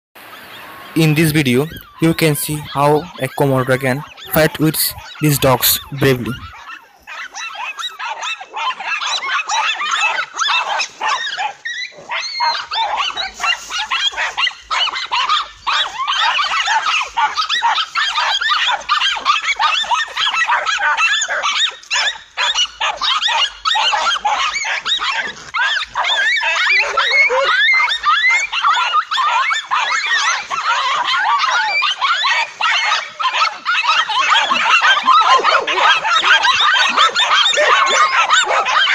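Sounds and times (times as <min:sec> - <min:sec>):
dogs barking and yelping: 0:00.2 - 0:38.9.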